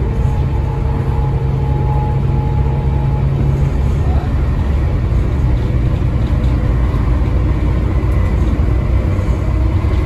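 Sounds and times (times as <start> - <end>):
bus diesel engine rumble: 0.0 - 10.0.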